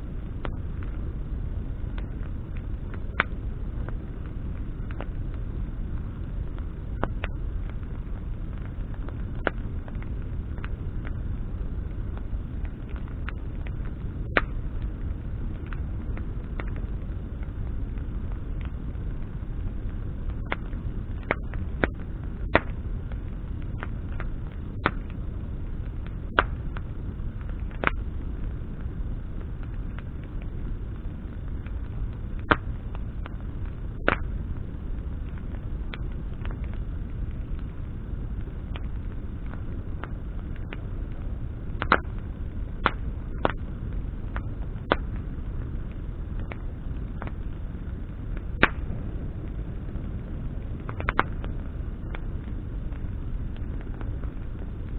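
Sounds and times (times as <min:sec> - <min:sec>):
bonfire crackling and popping: 0:00.0 - 0:54.9
low rumble: 0:00.0 - 0:54.9.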